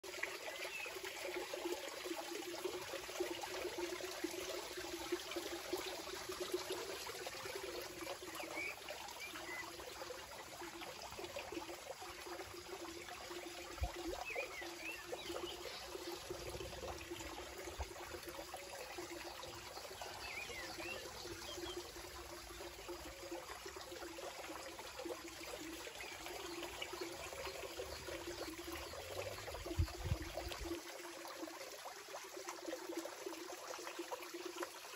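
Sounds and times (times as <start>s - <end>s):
trickling water with crackling: 0.0s - 34.9s.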